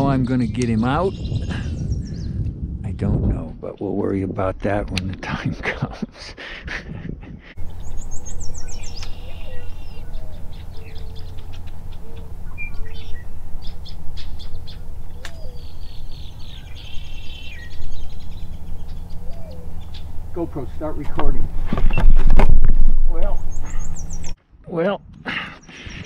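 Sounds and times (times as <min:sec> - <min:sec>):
birds singing and chirping: 0:00.0 - 0:02.6, 0:03.3 - 0:04.8, 0:07.4 - 0:24.4, 0:25.1 - 0:26.0
steady low hum: 0:00.0 - 0:24.4.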